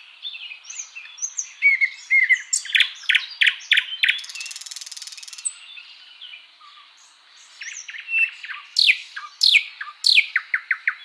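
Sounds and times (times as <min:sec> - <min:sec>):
birds chirping and singing: 0:00.0 - 0:11.0.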